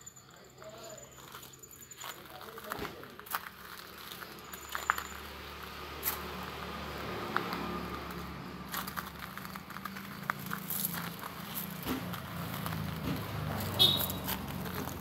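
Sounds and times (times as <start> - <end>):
footsteps on gravel: 0.6 - 15.0.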